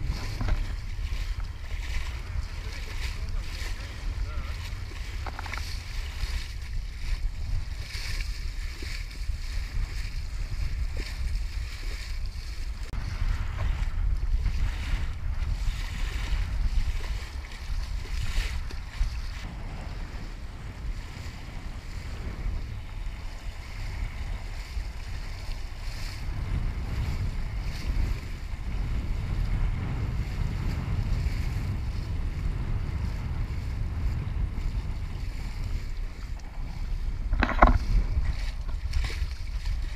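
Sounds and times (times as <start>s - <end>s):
water slapping along hull: 0.0s - 39.9s
wind buffeting microphone: 0.0s - 39.9s.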